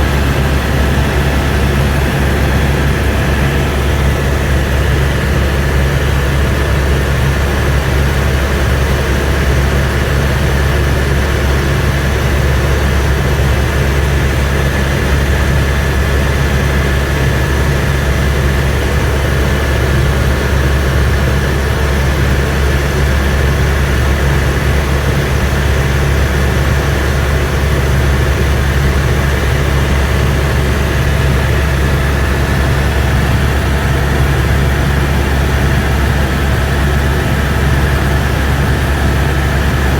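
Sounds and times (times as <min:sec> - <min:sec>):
turbine whine: 0:00.0 - 0:16.6, 0:21.0 - 0:39.9
helicopter rotor and engine rumble: 0:00.0 - 0:39.9.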